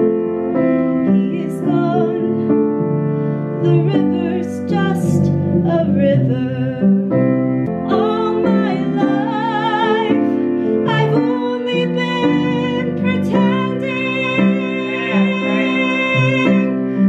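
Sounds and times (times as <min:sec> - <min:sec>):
piano accompaniment: 0:00.0 - 0:17.0
woman singing: 0:01.0 - 0:02.6, 0:03.6 - 0:07.2, 0:07.8 - 0:17.0.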